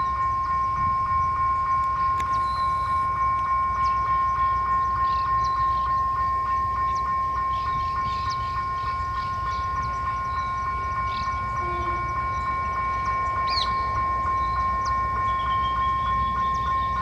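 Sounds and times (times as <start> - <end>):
diesel locomotive rumble: 0.0 - 17.0
level-crossing warning bell ringing: 0.0 - 17.0
bird chirps: 2.0 - 17.0.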